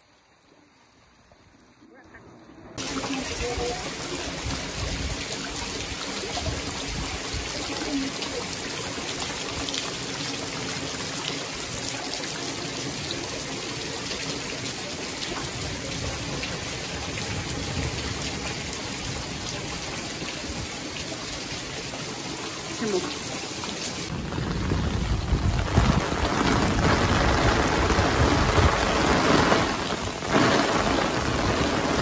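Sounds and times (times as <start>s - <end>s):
heavy rain on foliage: 2.8s - 32.0s.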